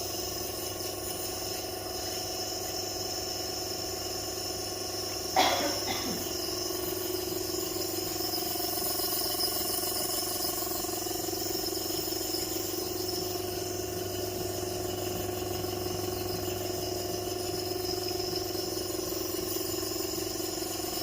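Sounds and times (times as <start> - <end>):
compressor motor humming: 0.0 - 21.0.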